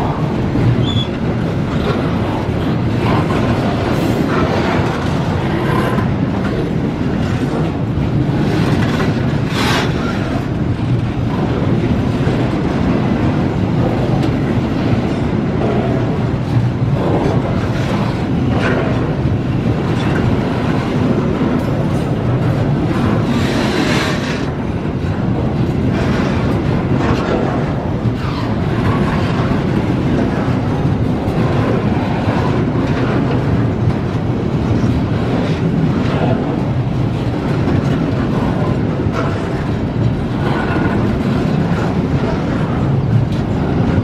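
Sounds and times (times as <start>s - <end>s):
train wheels clattering on rails: 0.0s - 44.0s.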